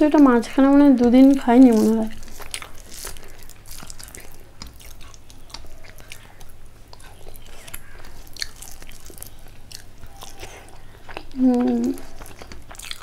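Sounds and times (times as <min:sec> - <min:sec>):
person chewing food: 0:00.2 - 0:13.0.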